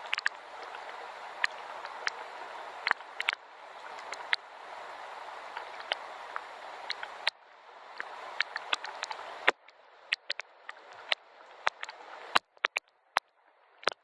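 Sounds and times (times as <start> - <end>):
gentle rain hissing: 0.0 - 14.0
water drips: 0.0 - 14.0.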